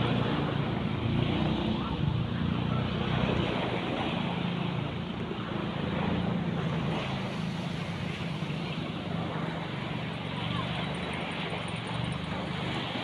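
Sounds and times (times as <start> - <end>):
constant low hum: 0.0 - 13.0
seaside wind: 0.0 - 13.0
surf: 0.0 - 13.0.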